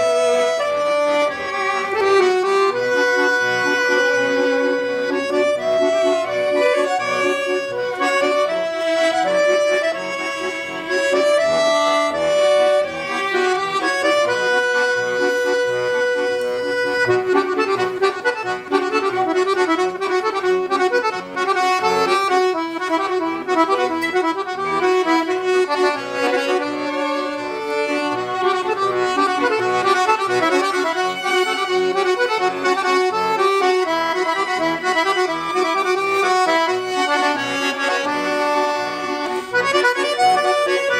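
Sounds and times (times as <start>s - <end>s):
accordion playing: 0.0s - 40.9s.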